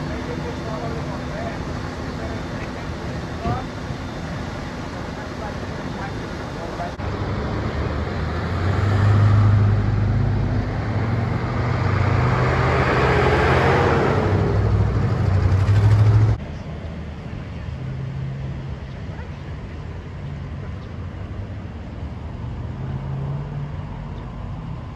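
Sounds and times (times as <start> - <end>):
highway traffic on wet road: 0.0 - 24.9.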